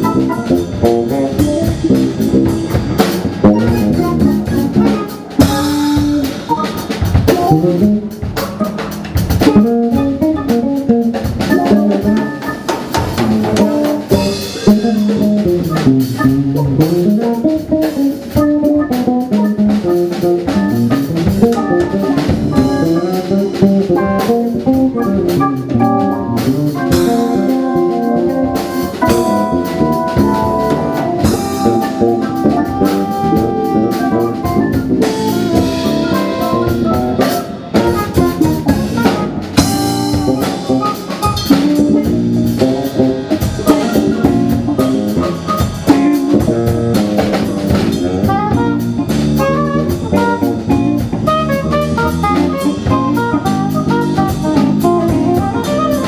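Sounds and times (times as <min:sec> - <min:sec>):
jazz fusion band playing: 0:00.0 - 0:56.0.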